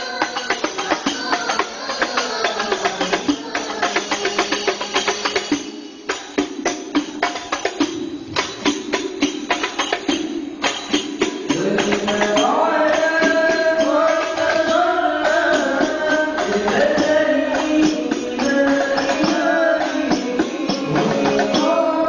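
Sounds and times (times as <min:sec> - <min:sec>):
hand frame drums rhythm: 0:00.0 - 0:22.0
voices singing devotional melody: 0:00.0 - 0:22.0.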